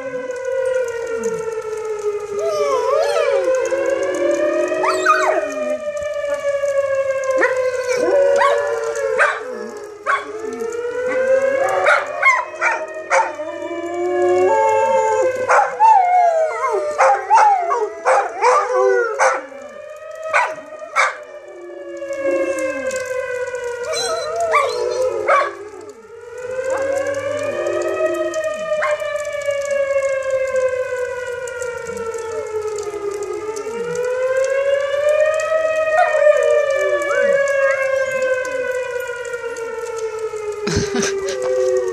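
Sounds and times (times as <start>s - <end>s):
warning siren rising and falling: 0.0s - 41.9s
dogs howling and barking: 0.2s - 41.9s.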